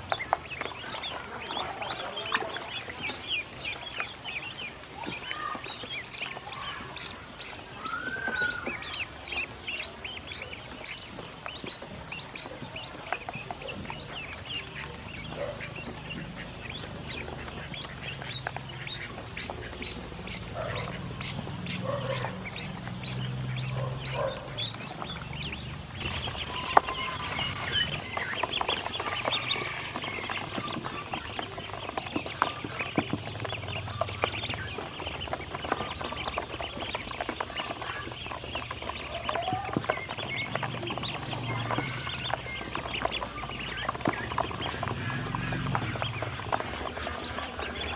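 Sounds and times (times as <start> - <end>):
ducklings peeping: 0.0 - 47.9.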